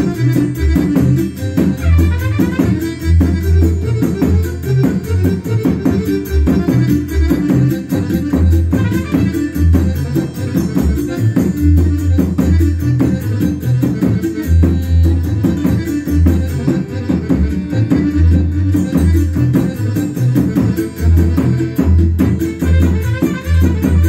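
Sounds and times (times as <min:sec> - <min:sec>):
folk music with melody instruments: 0:00.0 - 0:24.0.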